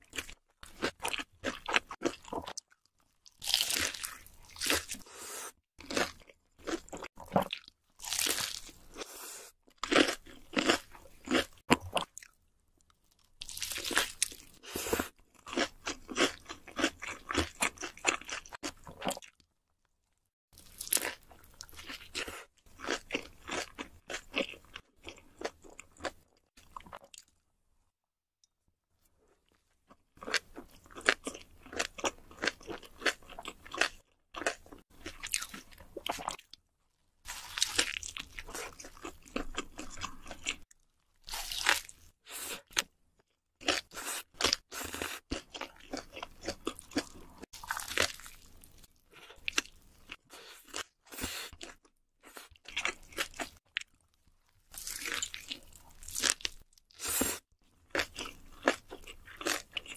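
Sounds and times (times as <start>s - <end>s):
chewing and crunching food: 0.0s - 5.1s, 5.8s - 27.4s, 29.0s - 59.9s.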